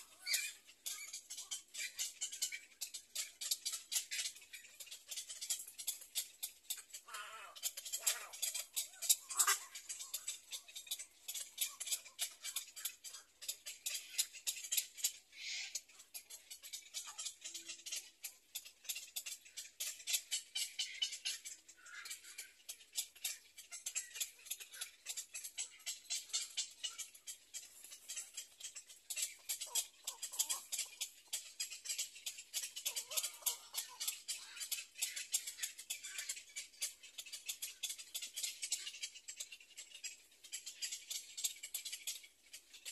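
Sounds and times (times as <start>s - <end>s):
heron chicks ticking chatter: 0.0s - 42.9s.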